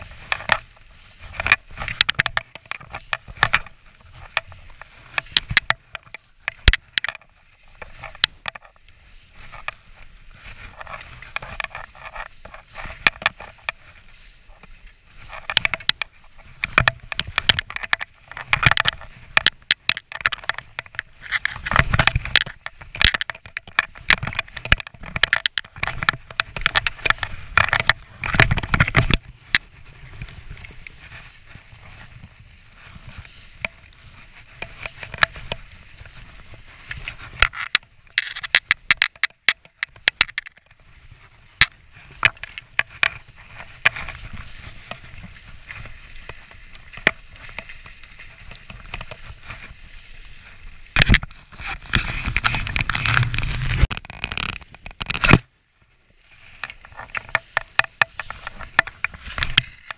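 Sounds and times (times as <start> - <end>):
sharp clicks and knocks: 0.0 - 8.8, 10.4 - 14.0, 14.6 - 32.0, 33.0 - 49.7, 50.9 - 55.5, 56.6 - 59.9
skis scraping through snow: 0.0 - 17.5, 18.1 - 25.1, 26.0 - 38.9, 40.7 - 59.9.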